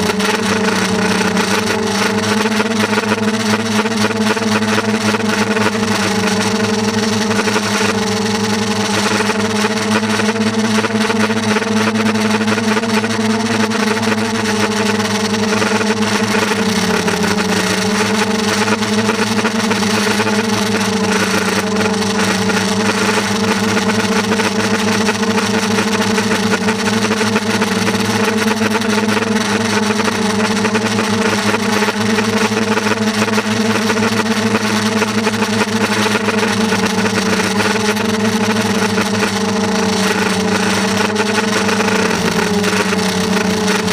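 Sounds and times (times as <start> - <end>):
motor hum: 0.0 - 43.9.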